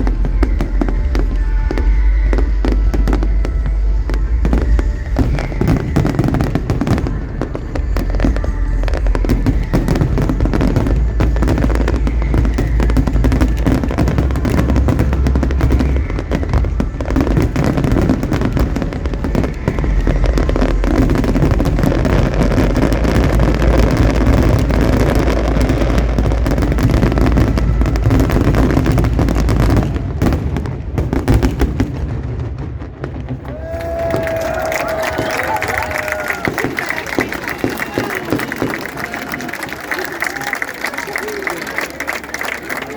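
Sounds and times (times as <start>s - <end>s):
fireworks booming and crackling: 0.0s - 42.9s.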